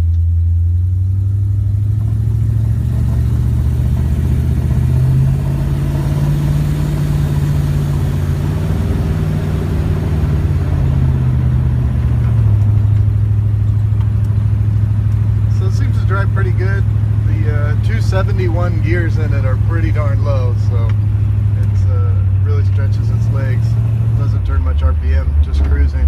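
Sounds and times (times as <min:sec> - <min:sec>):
car engine running while driving: 0:00.0 - 0:26.0.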